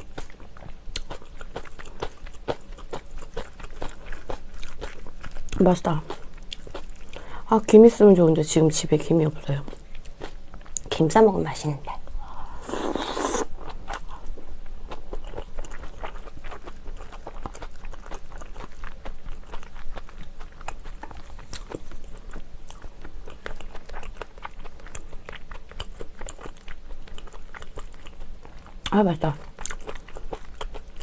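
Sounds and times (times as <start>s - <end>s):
wet chewing: 0.0s - 7.4s, 9.5s - 11.0s, 12.6s - 31.0s.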